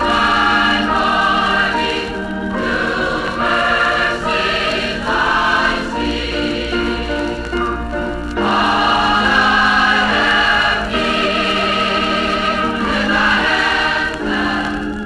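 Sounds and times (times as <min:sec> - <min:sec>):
choir singing gospel chords: 0:00.0 - 0:15.0.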